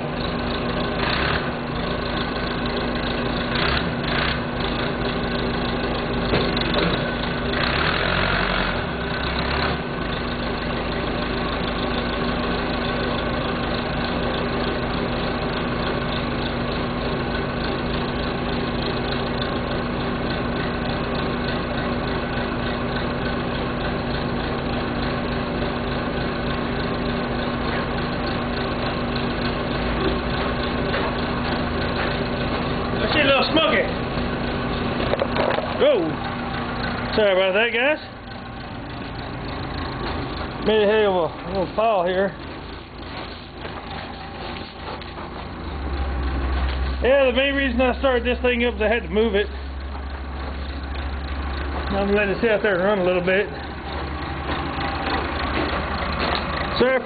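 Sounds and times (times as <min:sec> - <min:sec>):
backhoe engine running: 0:00.0 - 0:57.0.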